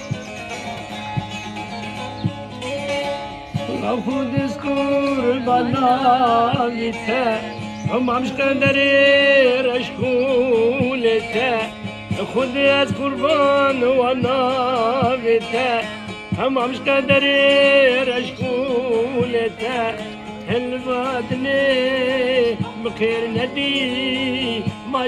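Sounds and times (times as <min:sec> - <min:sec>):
man singing folk melody: 0:00.0 - 0:25.0
plucked long-necked lute: 0:00.0 - 0:25.0.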